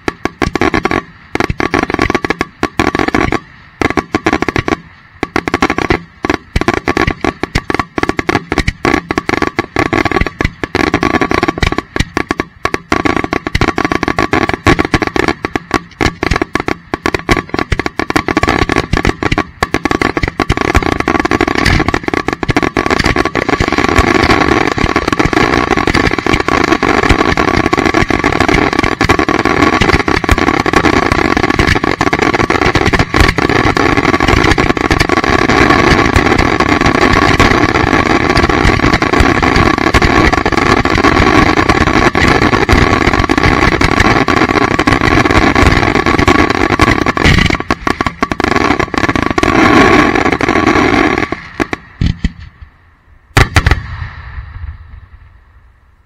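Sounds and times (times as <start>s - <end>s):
fireworks barrage bangs and crackling: 0.0s - 55.8s.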